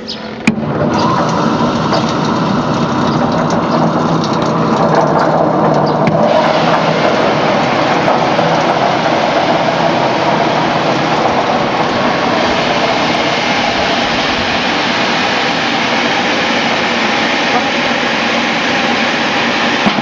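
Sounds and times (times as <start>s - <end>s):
vibrating machine screen shaking: 0.6s - 20.0s.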